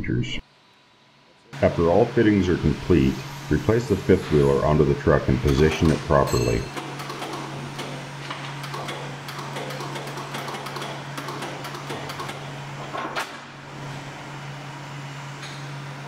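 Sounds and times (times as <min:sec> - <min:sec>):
hydraulic pump humming: 0:01.5 - 0:16.0.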